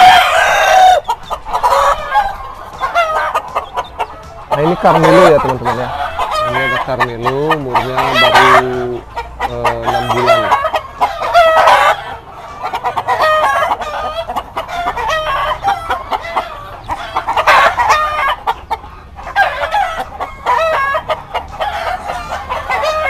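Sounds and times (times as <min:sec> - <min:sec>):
chickens clucking: 0:00.0 - 0:23.0
roosters crowing: 0:00.0 - 0:23.0.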